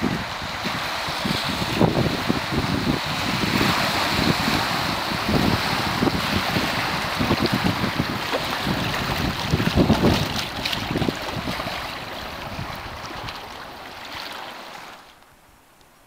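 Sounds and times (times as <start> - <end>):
wind buffeting microphone: 0.0 - 14.1
rough river water: 0.0 - 16.0.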